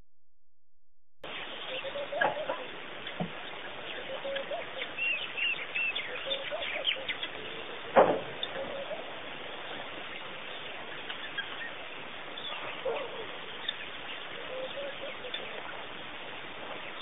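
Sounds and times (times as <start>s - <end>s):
steady hiss: 1.2s - 17.0s.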